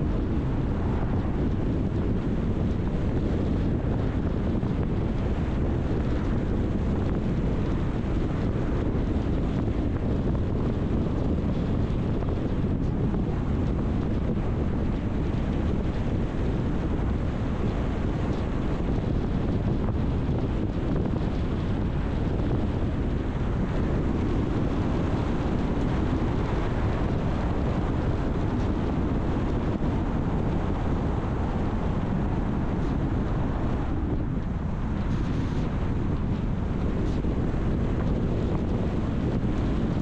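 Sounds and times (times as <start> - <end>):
wind noise: 0.0 - 40.0.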